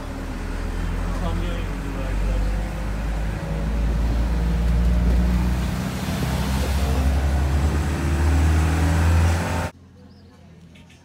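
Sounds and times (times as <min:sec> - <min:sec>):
truck engine running: 0:00.0 - 0:09.7
road noise: 0:00.0 - 0:11.0.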